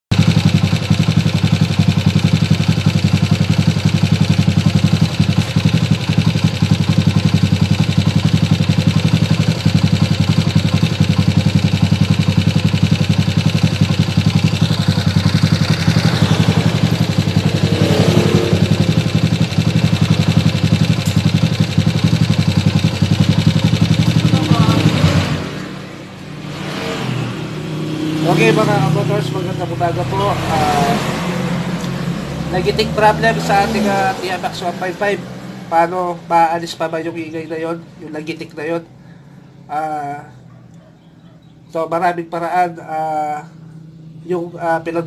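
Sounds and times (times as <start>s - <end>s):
motorcycle engine with valve ticking: 0.1s - 40.2s.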